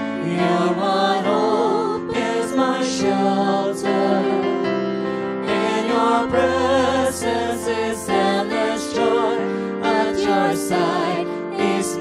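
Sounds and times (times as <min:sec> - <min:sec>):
voices singing worship song: 0:00.0 - 0:12.0.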